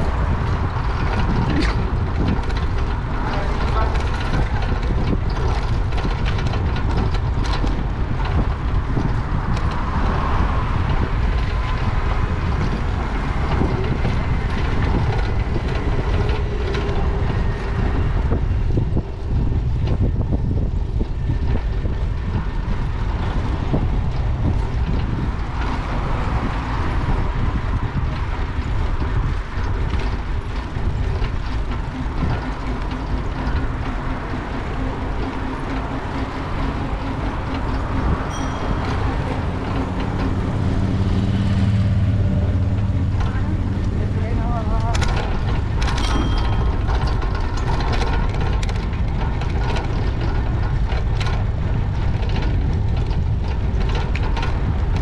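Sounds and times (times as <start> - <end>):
faint street traffic: 0.0 - 55.0
wind and road noise: 0.0 - 55.0.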